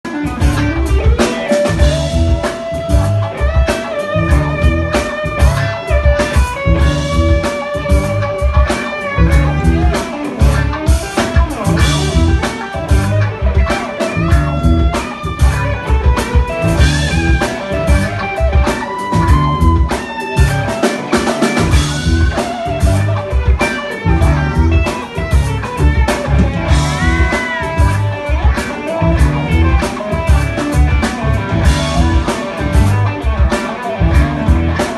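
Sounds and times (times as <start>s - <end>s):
drum kit: 0.0s - 34.9s
guitar: 0.0s - 34.9s
heavy low end rhythm: 0.1s - 34.9s.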